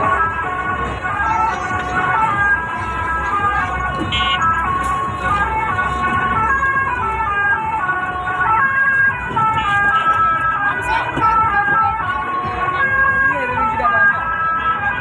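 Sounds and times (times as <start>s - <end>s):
musical horn playing a tune: 0.0s - 12.0s
low engine rumble: 0.0s - 15.0s.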